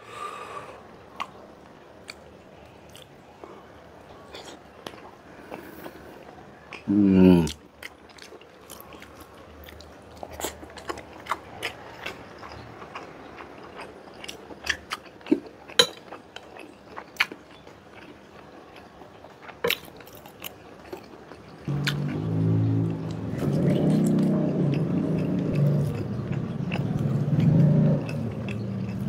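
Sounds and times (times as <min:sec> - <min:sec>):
person chewing food: 0:02.0 - 0:29.0.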